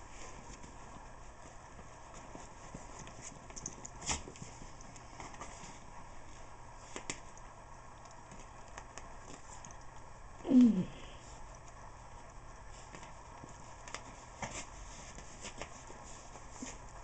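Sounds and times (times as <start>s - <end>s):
paws scrabbling on carpet: 0.0s - 10.1s, 11.3s - 17.0s.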